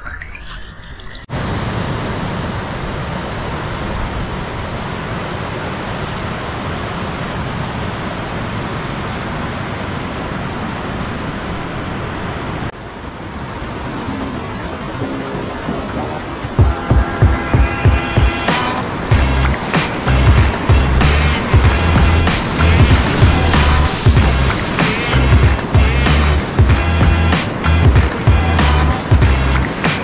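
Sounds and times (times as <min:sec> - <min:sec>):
whitewater rushing: 0:01.3 - 0:30.0.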